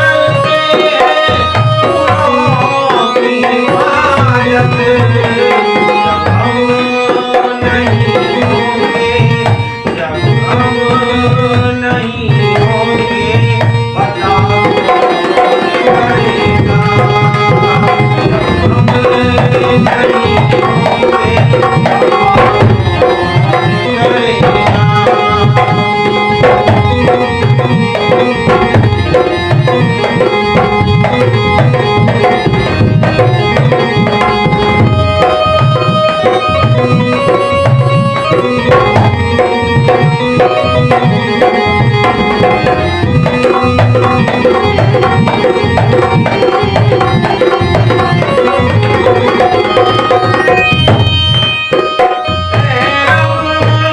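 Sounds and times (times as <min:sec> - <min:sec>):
melodic instrument line: 0:00.0 - 0:53.9
tabla rhythm: 0:00.0 - 0:53.9.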